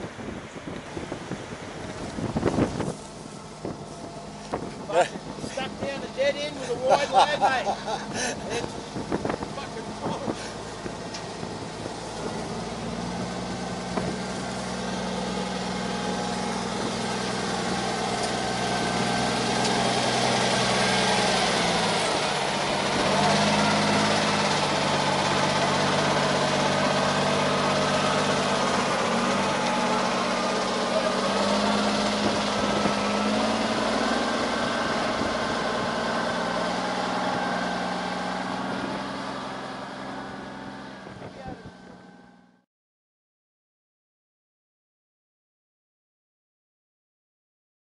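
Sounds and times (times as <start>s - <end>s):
diesel truck engine idling: 0.1s - 42.6s.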